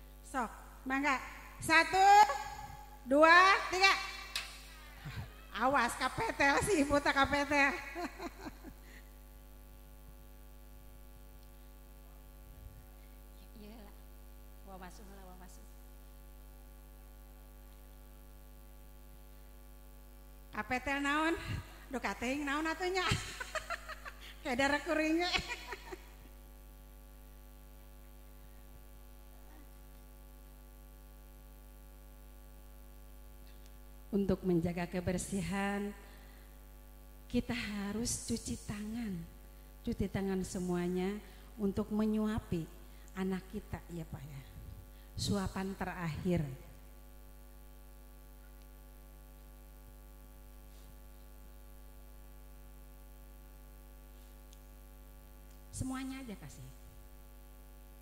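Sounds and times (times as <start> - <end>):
electrical mains hum: 0.0 - 58.0
sound system line buzz: 0.0 - 58.0.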